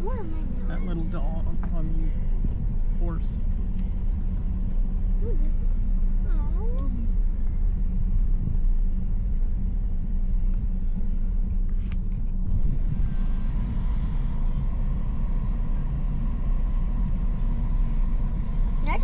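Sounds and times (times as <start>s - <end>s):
car rumbling at low speed: 0.0s - 19.0s.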